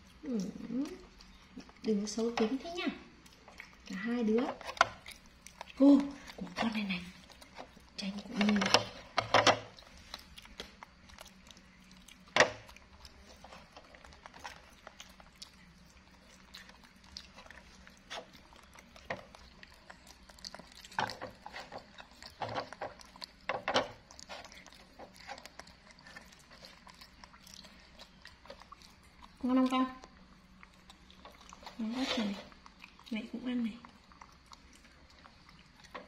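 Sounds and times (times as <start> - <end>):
monkeys eating with clicks and smacks: 0.0 - 36.0.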